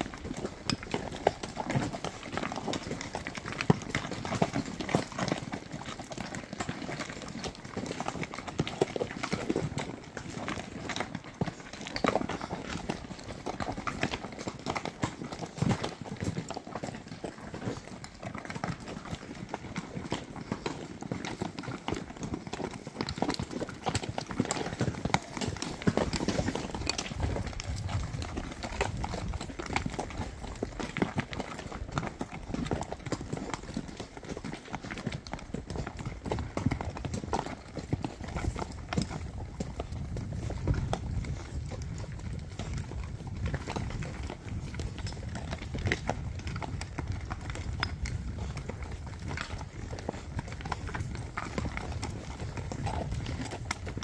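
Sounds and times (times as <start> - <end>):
horse hooves clopping on rocky trail: 0.0 - 54.0.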